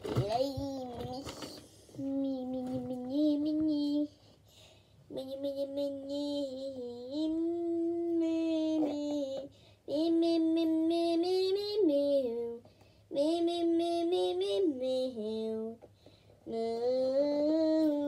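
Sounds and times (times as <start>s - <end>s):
girl singing wordlessly: 0.0s - 18.0s.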